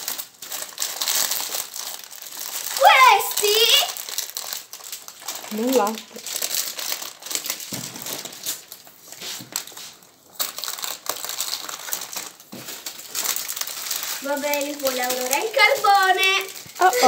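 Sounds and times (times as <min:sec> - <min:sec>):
plastic and paper wrapping crinkling: 0:00.0 - 0:17.0.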